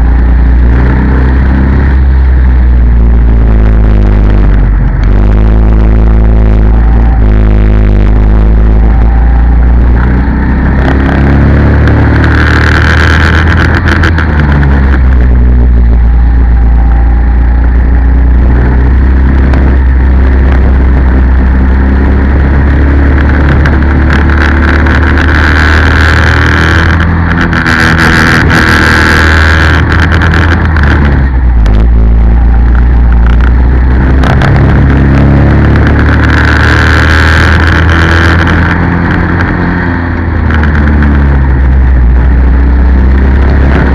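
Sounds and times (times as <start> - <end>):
go-kart engine revving: 0.0 - 43.9.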